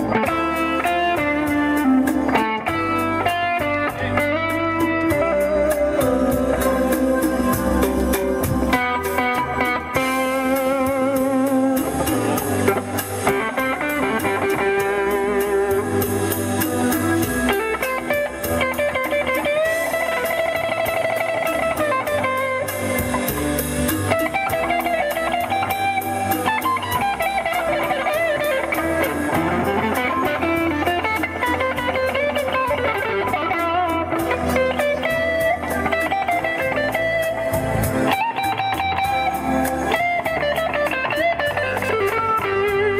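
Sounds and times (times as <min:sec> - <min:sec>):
electric guitar lead through speakers: 0:00.0 - 0:42.9.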